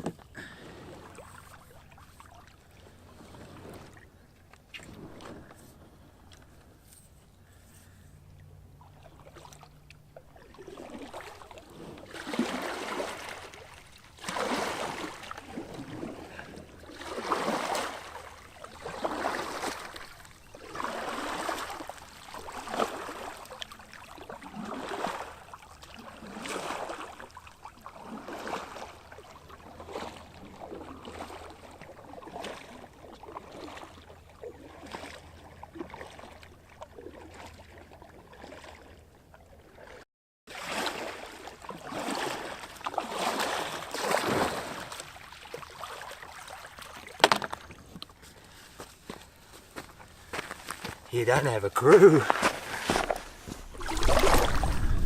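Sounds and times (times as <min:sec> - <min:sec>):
paddle splashing in water: 0:00.0 - 0:06.6, 0:08.8 - 0:55.0.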